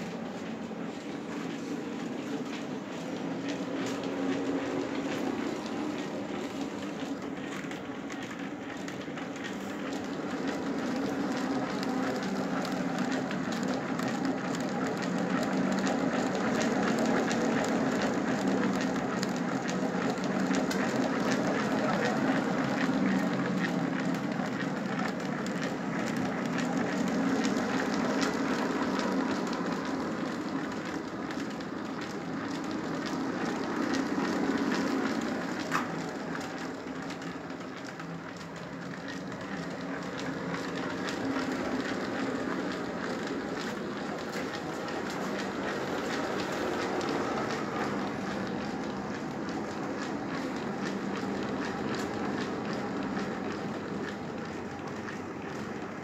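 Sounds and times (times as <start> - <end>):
belts running over pulleys: 0.0 - 56.0.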